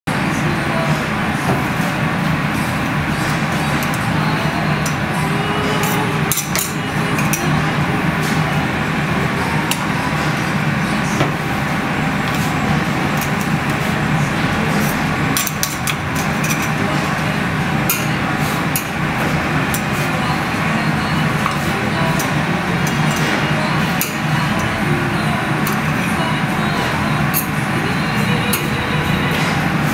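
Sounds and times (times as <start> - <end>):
machine hum: 0.1 - 29.9.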